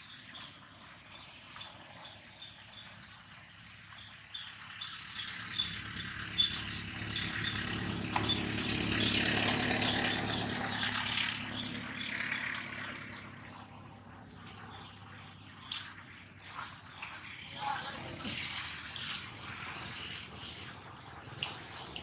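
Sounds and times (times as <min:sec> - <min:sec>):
rattling mechanical noise: 0:00.0 - 0:22.0.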